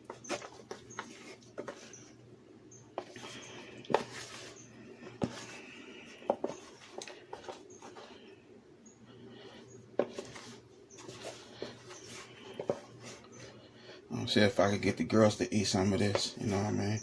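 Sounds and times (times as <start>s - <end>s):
soft rustling of flour: 0.0s - 16.9s.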